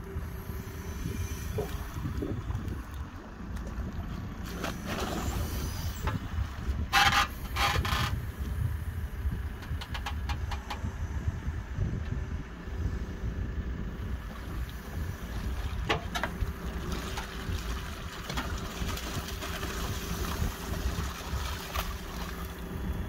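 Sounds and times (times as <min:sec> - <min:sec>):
backhoe engine rumbling: 0:00.0 - 0:23.0
wind on microphone: 0:00.0 - 0:23.0.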